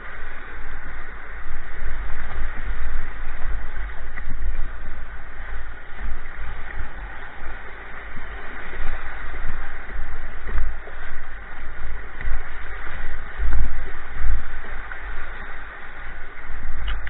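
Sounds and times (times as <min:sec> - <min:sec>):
river rapids rushing and splashing: 0:00.0 - 0:17.0
wind buffeting microphone: 0:00.0 - 0:17.0.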